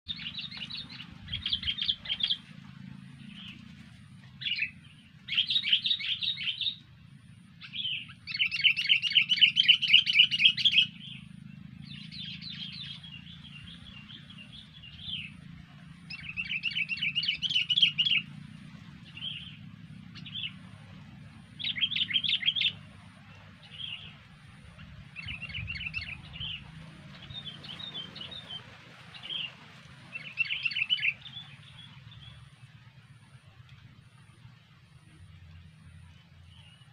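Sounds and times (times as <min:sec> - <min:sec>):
birds chattering: 0:00.1 - 0:33.3.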